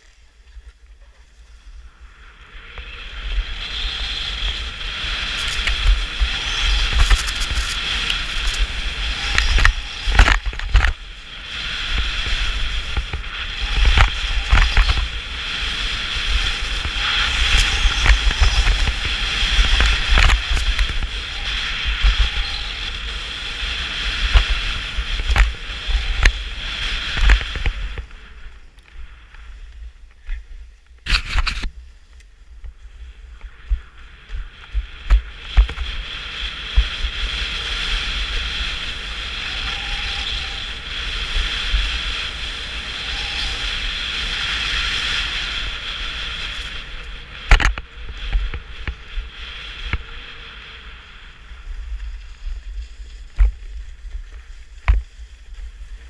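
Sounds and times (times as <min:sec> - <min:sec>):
skis scraping on snow: 0:00.0 - 0:56.0.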